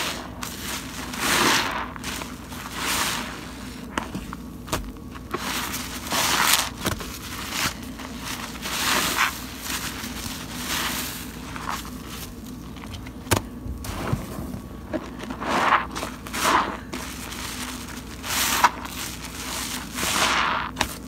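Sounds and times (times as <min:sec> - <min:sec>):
wet sponge squelching: 0:00.0 - 0:04.0, 0:05.2 - 0:12.4, 0:13.8 - 0:21.0.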